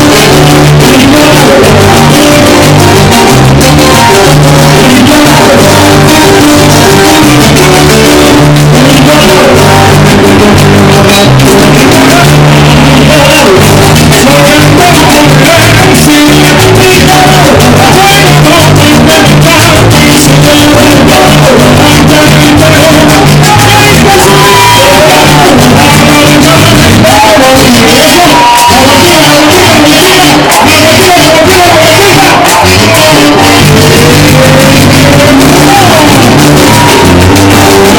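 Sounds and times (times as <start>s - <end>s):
live latin band with singing: 0.0s - 37.9s.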